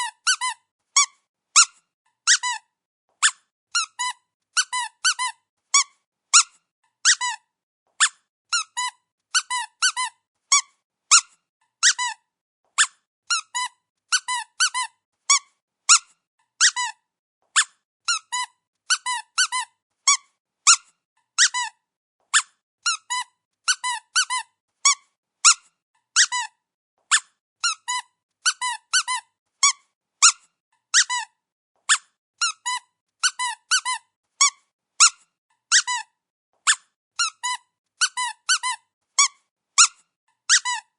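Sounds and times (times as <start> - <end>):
squeaky dog toy squeaking: 0.0 - 40.9.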